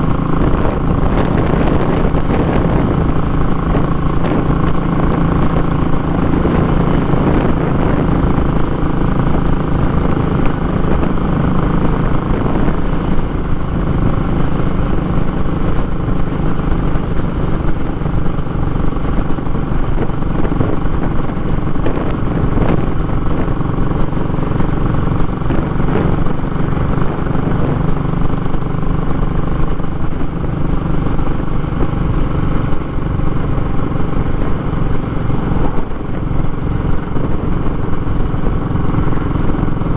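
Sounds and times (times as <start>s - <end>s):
motorcycle engine loud exhaust: 0.0s - 39.9s.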